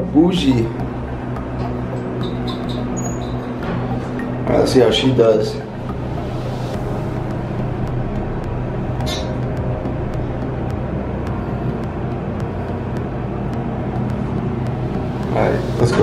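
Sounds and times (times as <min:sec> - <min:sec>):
elevator hum and rumble: 0:00.0 - 0:16.0.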